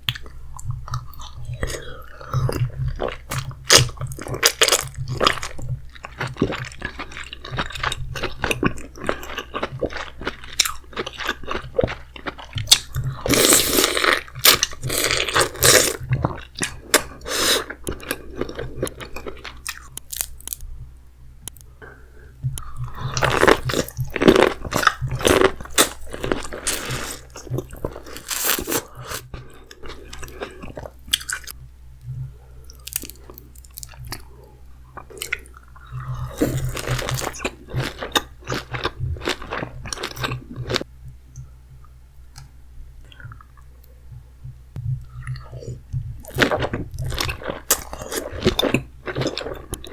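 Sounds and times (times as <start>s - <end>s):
close chewing and crunching: 0.0s - 20.6s, 22.5s - 40.9s, 44.8s - 49.9s.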